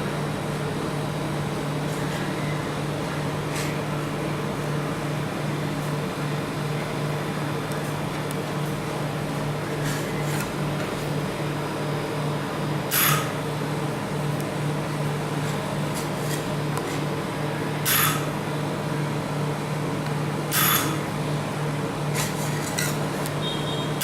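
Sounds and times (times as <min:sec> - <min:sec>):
refrigeration unit humming: 0:00.0 - 0:24.0.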